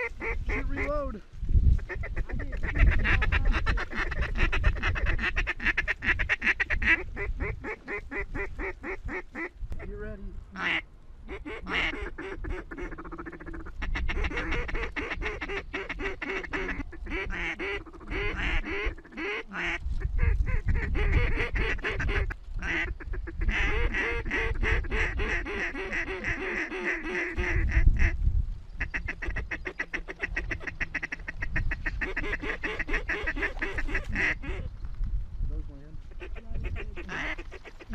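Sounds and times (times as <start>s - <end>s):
waterfowl flock calling: 0.0s - 1.1s, 1.8s - 9.5s, 10.6s - 28.2s, 28.8s - 34.7s, 36.1s - 37.9s.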